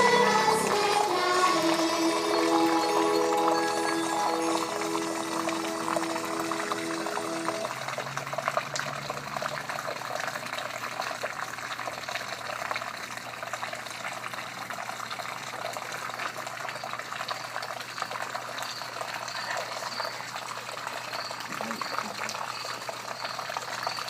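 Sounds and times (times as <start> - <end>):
small water cascade splashing: 2.2 - 24.0.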